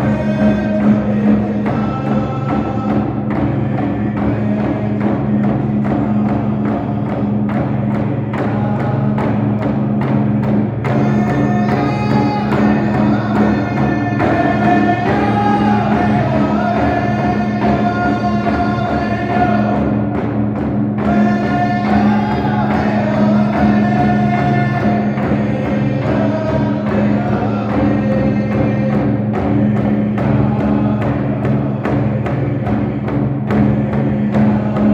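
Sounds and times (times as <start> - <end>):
drum beat: 0.0 - 34.9
group singing: 0.0 - 34.9.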